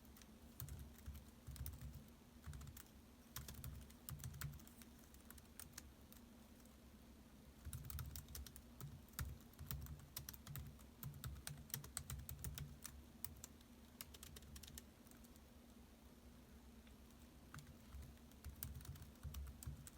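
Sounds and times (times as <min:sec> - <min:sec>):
typing on laptop keyboard: 0:00.1 - 0:06.2, 0:07.6 - 0:15.4, 0:17.5 - 0:19.9.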